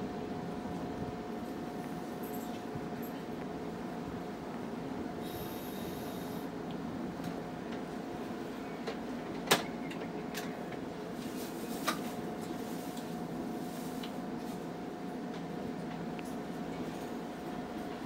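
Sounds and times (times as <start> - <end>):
tram equipment hum: 0.0 - 18.0.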